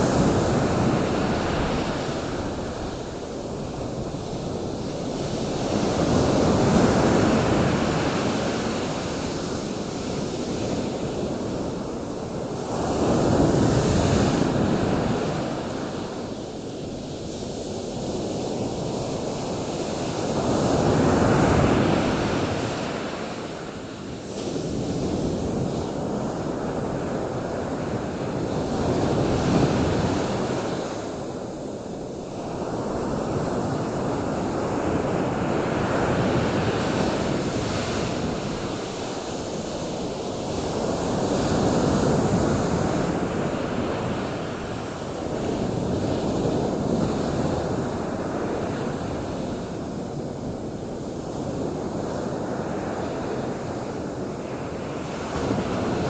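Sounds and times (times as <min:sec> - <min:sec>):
waves washing ashore: 0:00.0 - 0:56.0
wind: 0:00.0 - 0:56.0.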